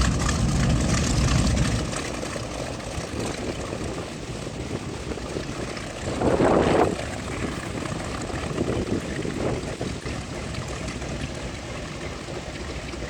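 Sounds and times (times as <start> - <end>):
radial aircraft engines running: 0.0 - 13.0.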